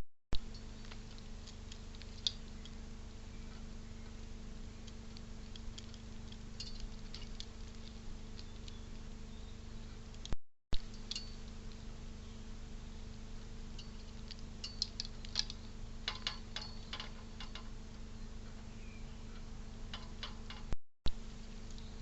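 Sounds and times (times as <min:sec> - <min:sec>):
low electrical hum: 0:00.4 - 0:22.0.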